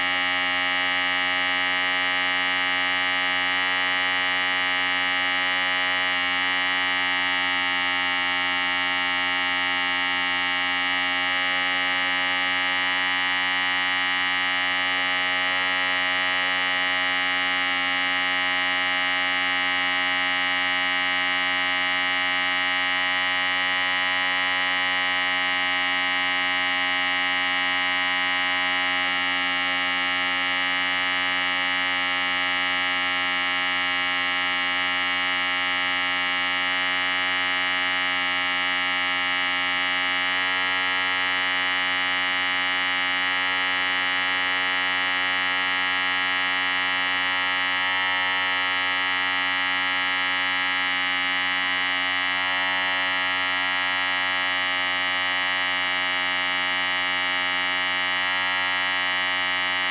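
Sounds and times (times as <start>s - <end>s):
electric hair clippers buzzing: 0.0s - 59.9s.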